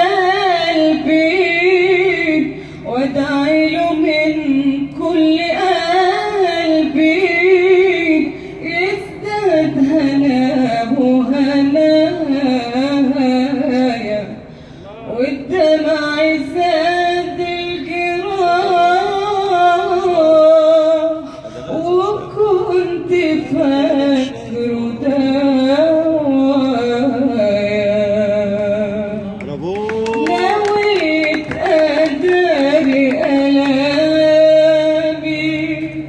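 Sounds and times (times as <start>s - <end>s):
woman singing into microphone: 0.0s - 29.4s, 30.0s - 36.0s.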